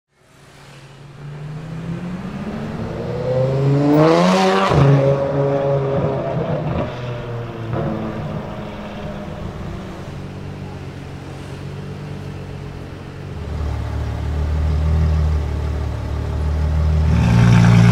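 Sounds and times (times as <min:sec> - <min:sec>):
sports car engine accelerating: 0:01.2 - 0:17.9.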